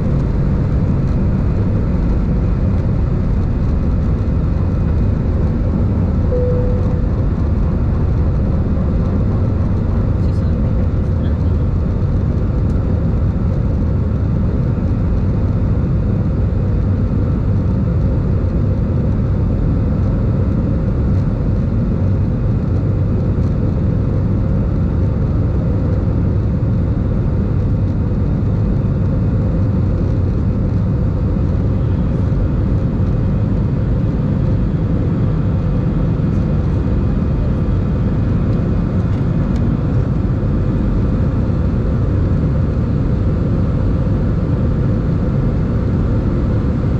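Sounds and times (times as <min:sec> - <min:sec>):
faint steady hums: 0:00.0 - 0:46.9
jet engines rumbling in cabin: 0:00.0 - 0:46.9.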